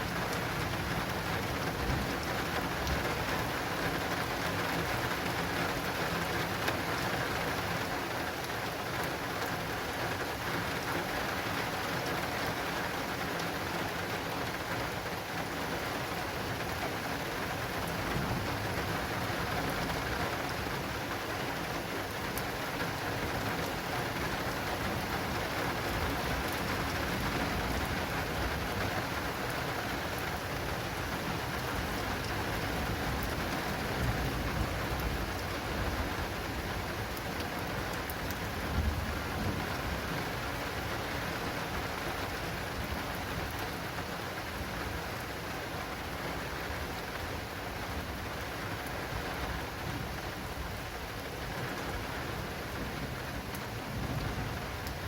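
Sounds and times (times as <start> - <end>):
heavy rain on an awning: 0.0 - 55.0.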